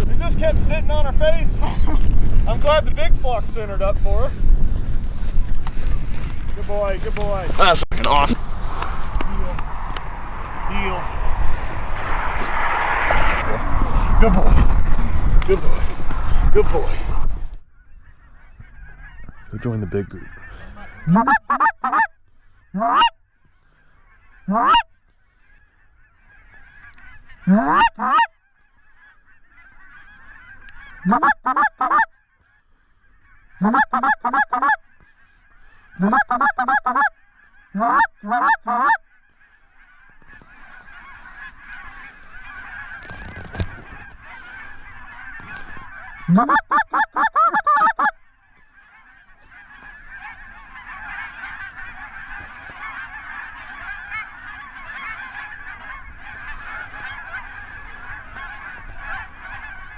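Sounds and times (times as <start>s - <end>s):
geese honking and clucking: 0.0s - 59.9s
large flock calling: 0.0s - 59.9s.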